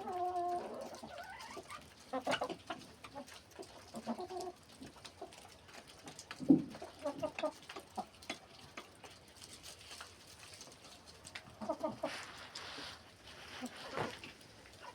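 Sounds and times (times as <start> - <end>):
chickens clucking: 0.0 - 9.0, 10.6 - 12.6, 13.6 - 14.9.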